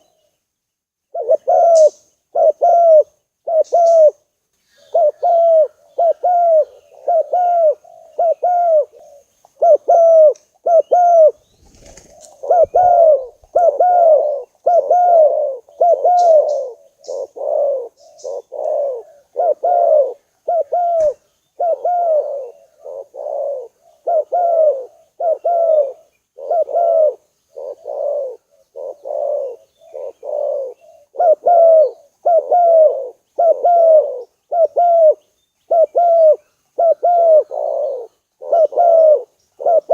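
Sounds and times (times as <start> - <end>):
dove cooing: 1.1 - 39.9.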